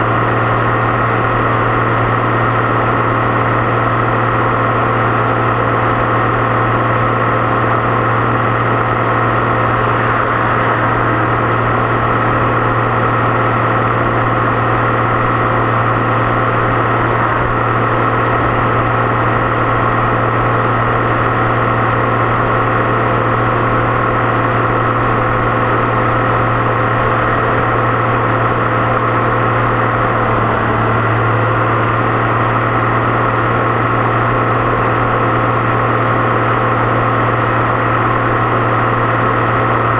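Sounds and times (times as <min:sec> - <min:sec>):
tractor diesel engine running: 0:00.0 - 0:39.9
turbo whine: 0:00.0 - 0:39.9.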